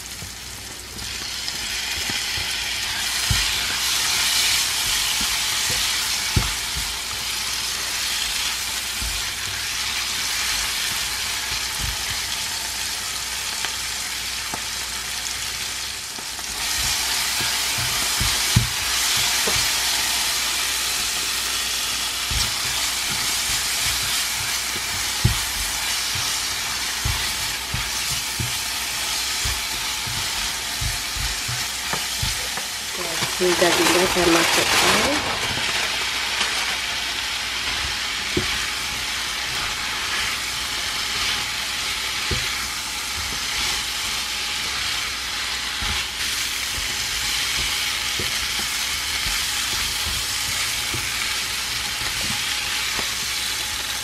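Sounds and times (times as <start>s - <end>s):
vegetables sizzling in oil: 0.0s - 54.0s.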